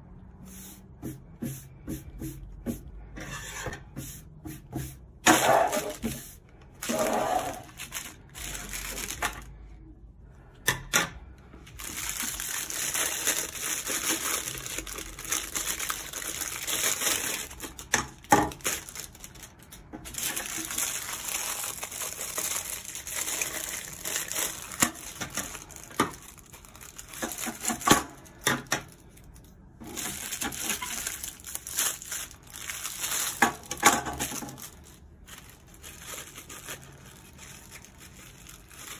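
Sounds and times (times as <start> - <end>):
plastic bags crinkling and tearing: 5.2 - 9.9, 11.6 - 38.9.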